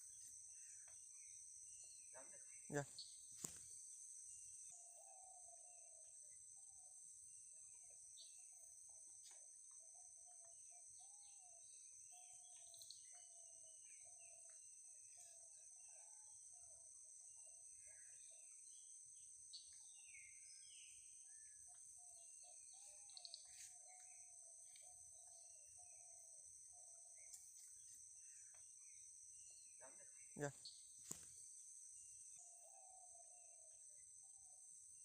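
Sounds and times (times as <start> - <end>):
high insect drone: 0.0 - 35.0.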